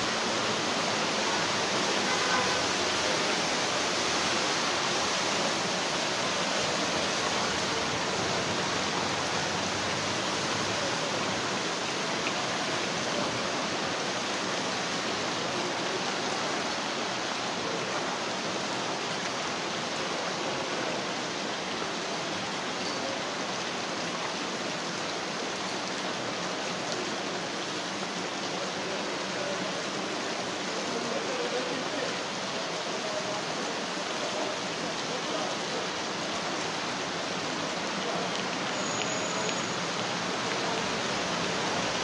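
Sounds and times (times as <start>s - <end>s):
heavy rain: 0.0s - 42.0s
rainwater rushing through street: 0.0s - 42.0s.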